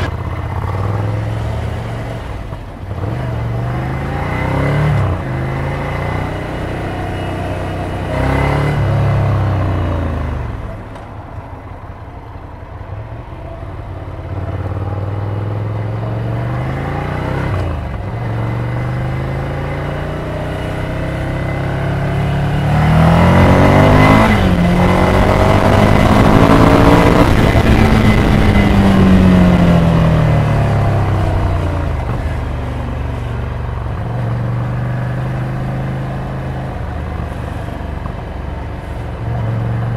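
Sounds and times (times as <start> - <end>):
motorcycle engine revving: 0.0 - 10.6, 14.2 - 39.9.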